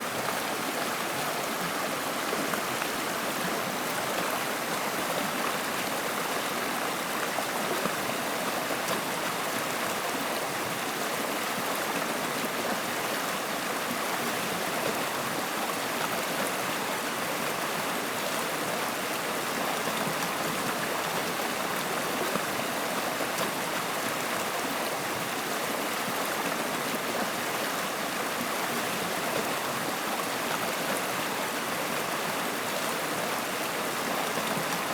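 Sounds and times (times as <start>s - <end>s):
stream water running: 0.0s - 34.9s.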